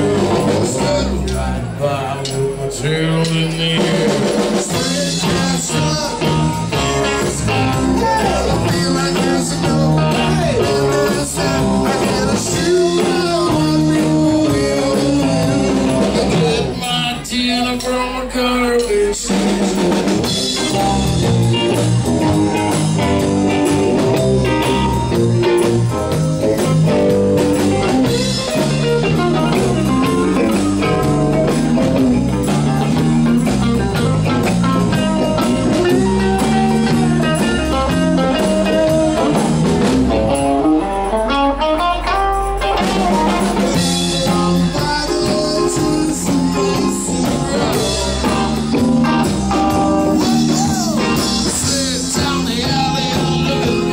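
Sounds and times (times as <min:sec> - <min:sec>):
bass guitar: 0:00.0 - 0:53.9
drum kit: 0:00.0 - 0:53.9
electric guitar lines: 0:00.0 - 0:53.9.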